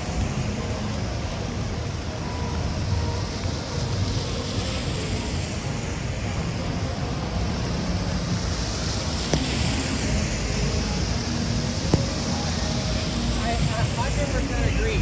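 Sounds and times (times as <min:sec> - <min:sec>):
traffic rumble on wet road: 0:00.0 - 0:15.0
tyres hissing on wet road: 0:00.0 - 0:15.0.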